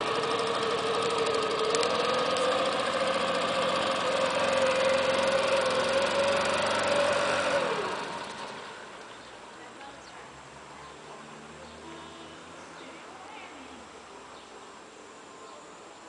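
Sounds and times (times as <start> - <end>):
motorboat engine passing: 0.0 - 14.3.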